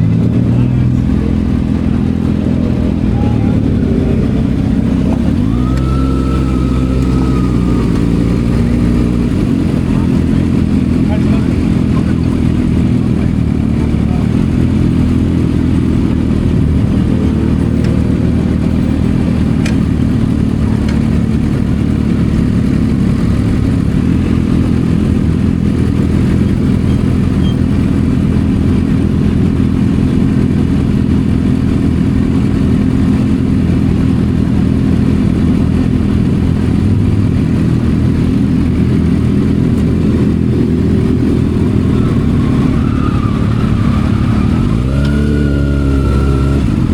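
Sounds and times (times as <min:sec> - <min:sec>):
motorcycle engine running steadily: 0:00.0 - 0:46.9.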